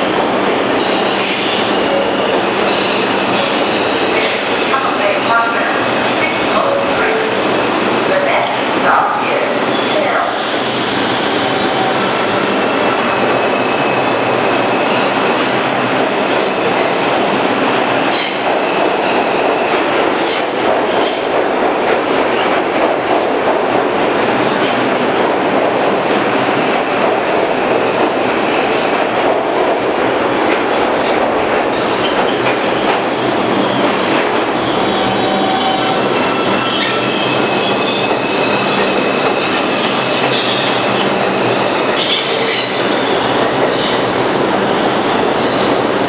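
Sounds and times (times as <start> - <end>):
subway train rumbling: 0.0 - 46.0.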